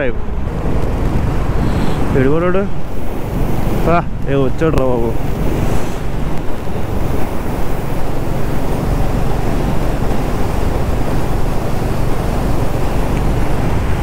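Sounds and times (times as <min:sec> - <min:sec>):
motorcycle engine drone: 0:00.0 - 0:14.0
wind rush on microphone: 0:00.0 - 0:14.0.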